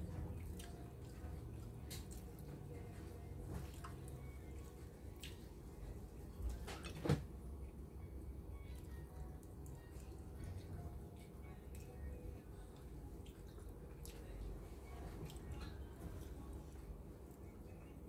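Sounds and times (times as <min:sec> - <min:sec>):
handling noises while eating: 0:00.0 - 0:07.7, 0:08.6 - 0:18.0
low room hum: 0:00.0 - 0:18.0.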